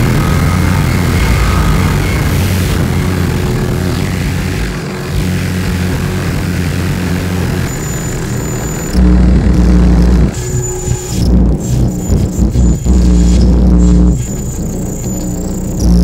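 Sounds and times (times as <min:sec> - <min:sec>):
deep bass tone: 0:00.0 - 0:16.0
electronic noise music drone: 0:00.0 - 0:16.0.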